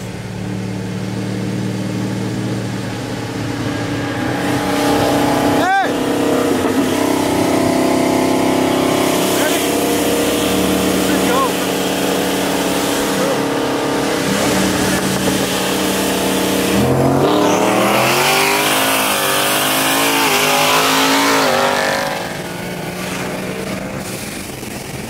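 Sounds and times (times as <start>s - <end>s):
car engines revving hard: 0.0s - 25.0s.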